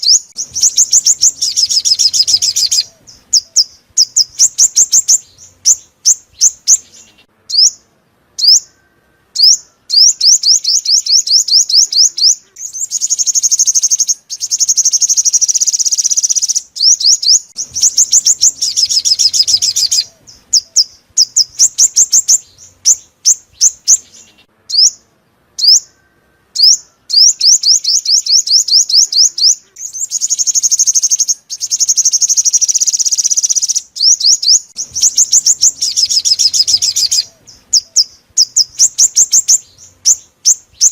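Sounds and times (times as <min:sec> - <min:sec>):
sunbird chirps and trills: 0:00.0 - 0:40.9.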